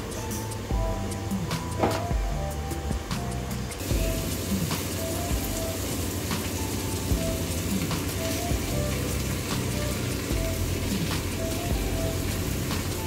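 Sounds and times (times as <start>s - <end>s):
background music with beat: 0.0s - 13.0s
steady hiss: 0.0s - 13.0s.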